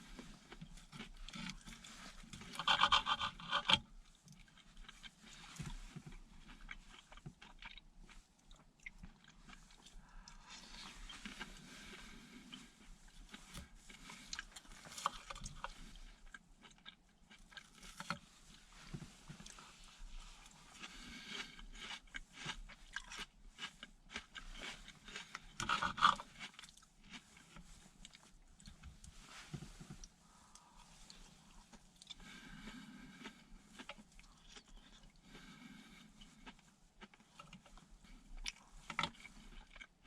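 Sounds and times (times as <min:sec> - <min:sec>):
person chewing meat: 0:00.0 - 0:40.0.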